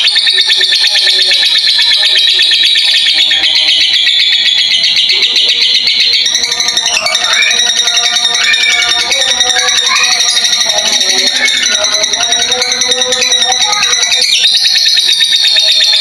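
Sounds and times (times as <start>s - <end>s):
lovebird chattering trills: 0.0s - 16.0s.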